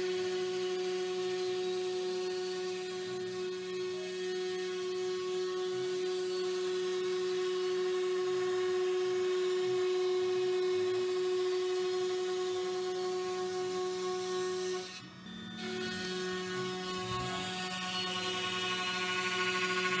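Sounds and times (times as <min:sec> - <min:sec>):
router spindle high whine: 0:00.0 - 0:20.0.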